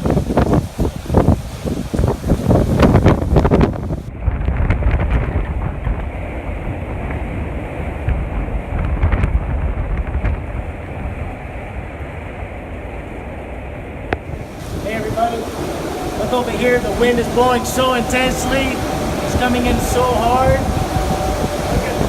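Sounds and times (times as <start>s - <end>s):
strong wind roaring: 0.0s - 22.0s
wind buffeting microphone: 0.0s - 22.0s.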